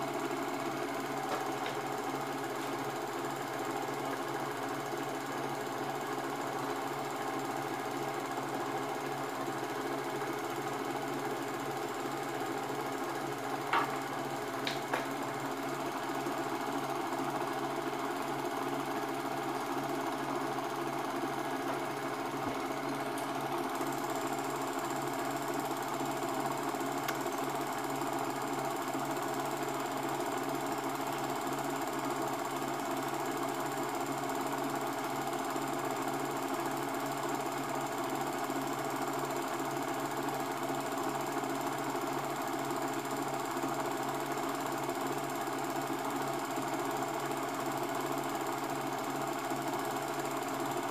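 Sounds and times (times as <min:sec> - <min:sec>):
film projector running: 0:00.0 - 0:50.9.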